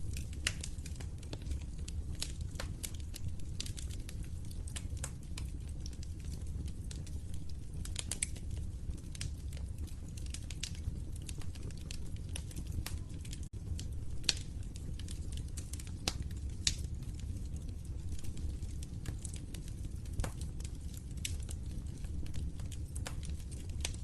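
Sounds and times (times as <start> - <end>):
fire popping and snapping: 0.0 - 24.0
low rumble of burning: 0.0 - 24.0.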